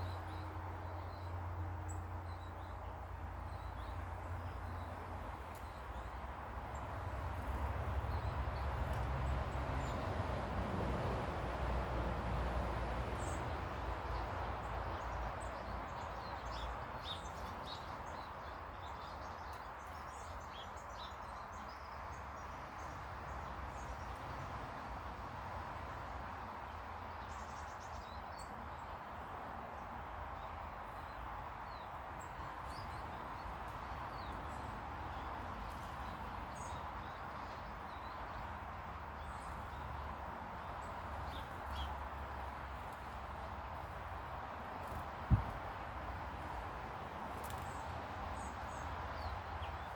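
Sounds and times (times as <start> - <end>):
small birds chirping: 0.0 - 10.1, 13.0 - 24.5, 26.7 - 49.9.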